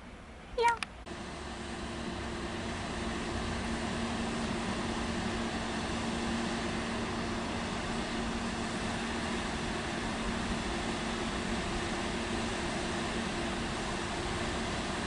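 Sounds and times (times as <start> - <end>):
electric locomotive humming: 0.0 - 15.0.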